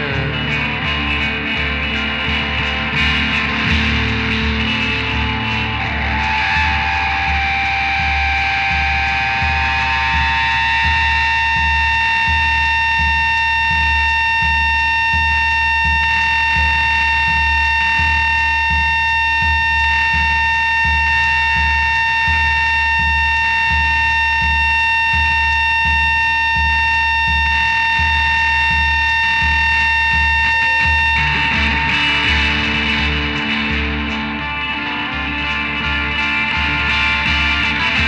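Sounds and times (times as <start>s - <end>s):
high-pitched drone: 0.0s - 38.0s
low pulsing throb: 0.0s - 38.0s.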